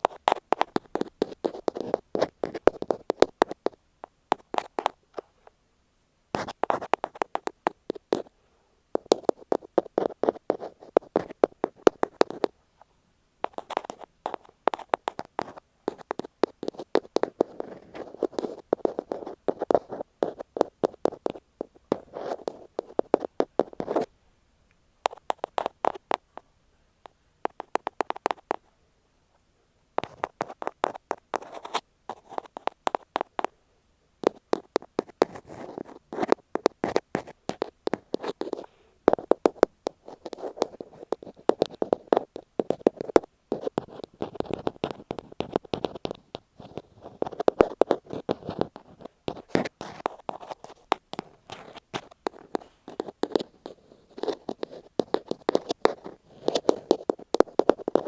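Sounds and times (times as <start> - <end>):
ear pick scratching microphone: 0.0 - 5.3, 6.4 - 8.3, 8.9 - 12.6, 13.4 - 24.1, 25.0 - 26.4, 27.4 - 28.7, 30.0 - 33.5, 34.2 - 58.0.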